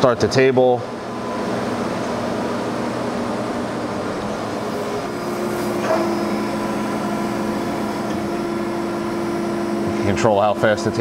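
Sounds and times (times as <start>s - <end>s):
higher steady machine tone: 0.0s - 11.0s
grinder humming: 1.5s - 11.0s.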